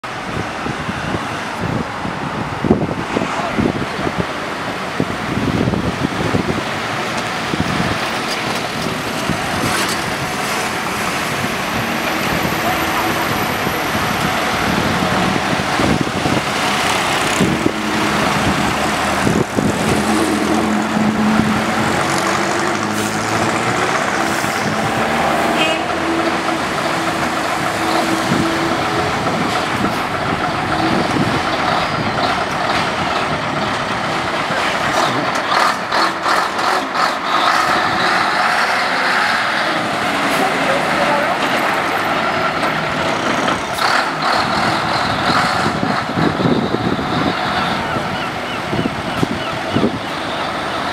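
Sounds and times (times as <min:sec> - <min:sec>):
diesel lorry engine under load: 0:00.0 - 0:50.9.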